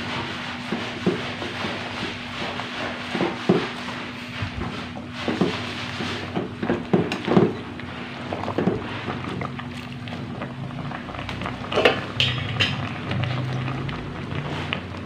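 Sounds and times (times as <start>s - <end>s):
pot boiling with steady hiss: 0.0s - 15.0s.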